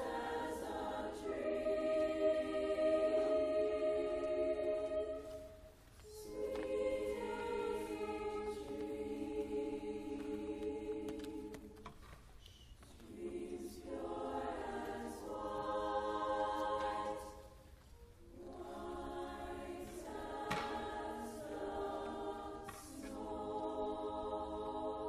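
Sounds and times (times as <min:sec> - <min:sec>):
women's choir singing: 0:00.0 - 0:12.0, 0:12.8 - 0:25.0.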